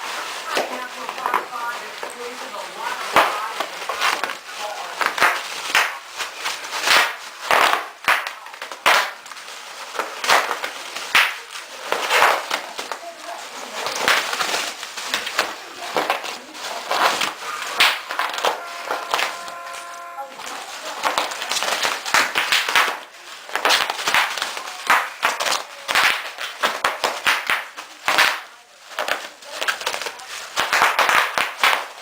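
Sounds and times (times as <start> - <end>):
bubble wrap popping: 0.0 - 32.0.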